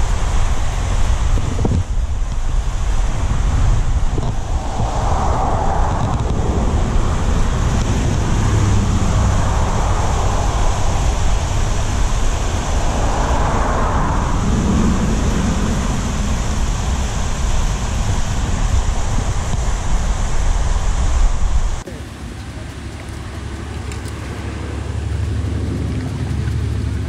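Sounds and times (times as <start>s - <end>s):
water rushing over spillway: 0.0s - 27.0s
wind rumbling on microphone: 0.0s - 27.0s.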